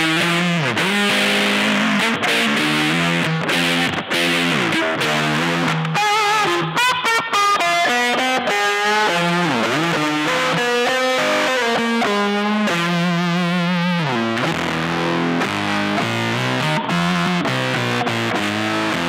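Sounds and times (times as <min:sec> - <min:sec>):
distorted electric guitar lead: 0:00.0 - 0:19.0.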